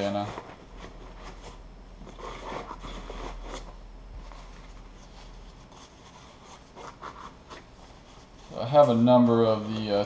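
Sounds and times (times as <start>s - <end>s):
fabric rustling and scraping: 0.0s - 10.0s.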